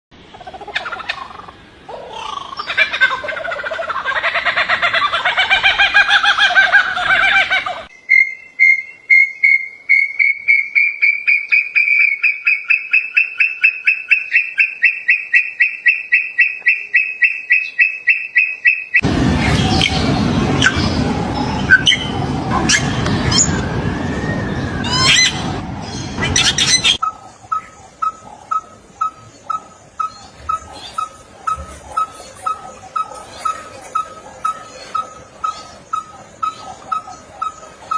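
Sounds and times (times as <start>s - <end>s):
birds warbling calls: 0.2s - 37.9s.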